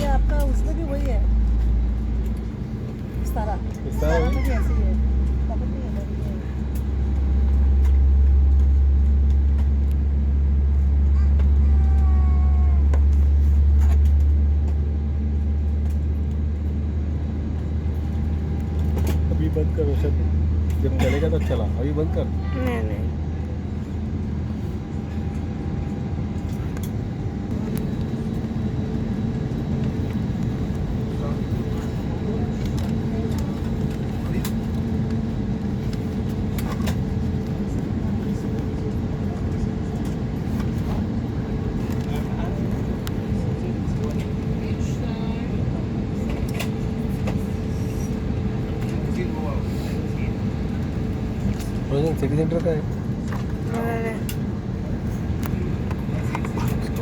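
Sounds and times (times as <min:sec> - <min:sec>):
aircraft cabin hum: 0:00.0 - 0:57.0.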